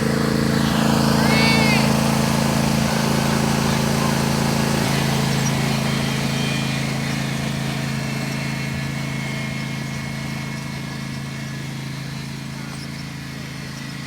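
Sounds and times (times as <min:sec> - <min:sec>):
riding lawn mower engine: 0:00.0 - 0:14.0.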